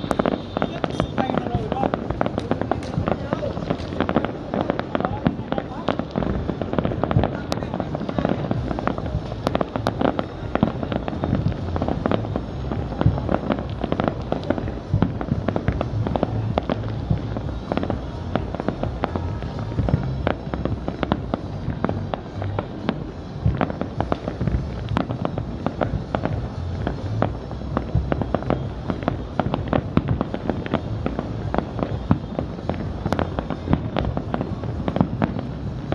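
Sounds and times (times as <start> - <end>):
fireworks bangs and crackles: 0.0 - 35.9
rolling low boom: 0.0 - 35.9.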